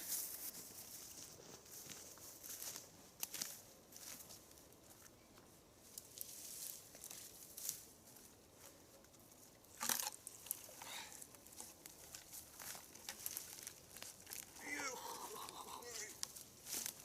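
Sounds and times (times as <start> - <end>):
dry leaves crackling underfoot: 0.0 - 17.0.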